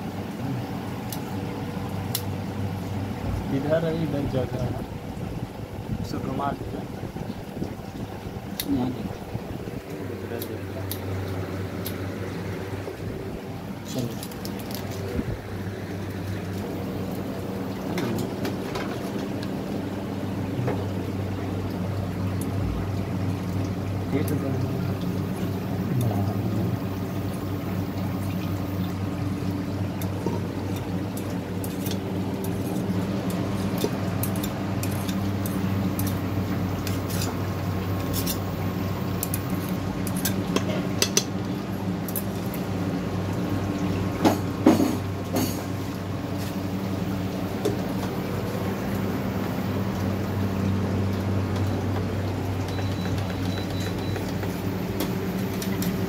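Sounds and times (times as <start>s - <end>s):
induction cooktop humming: 0.0s - 56.0s.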